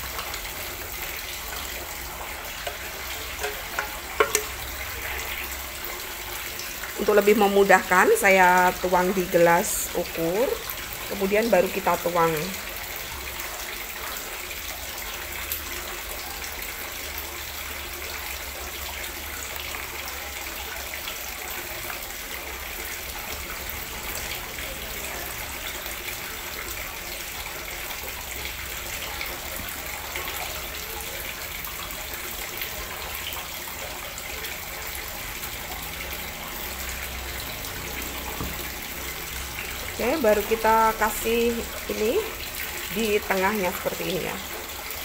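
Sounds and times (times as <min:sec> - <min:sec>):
liquid pouring and splashing: 0:00.0 - 0:45.0.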